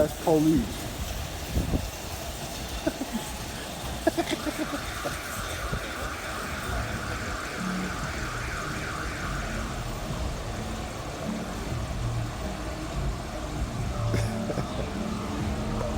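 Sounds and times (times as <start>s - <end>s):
city street traffic: 0.0s - 15.9s.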